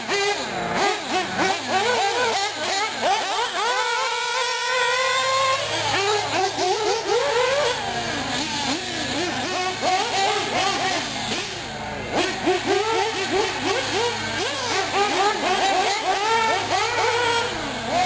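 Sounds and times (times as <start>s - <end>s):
small model engines revving: 0.0s - 18.0s.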